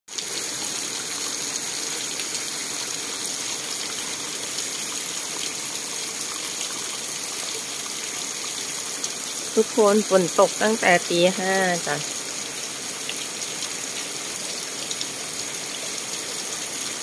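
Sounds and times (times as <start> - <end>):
steady rain hiss: 0.2 - 17.0.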